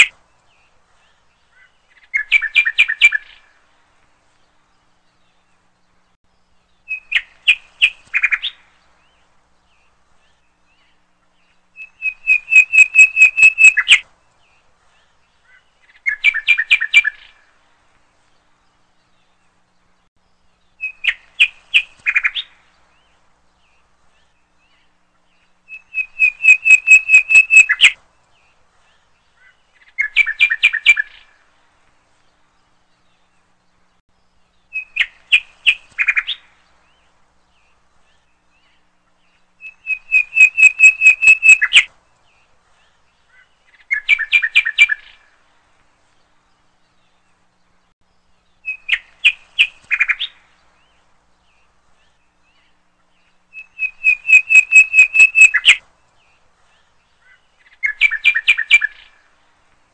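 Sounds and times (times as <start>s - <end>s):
bird chirping: 0.0s - 59.5s.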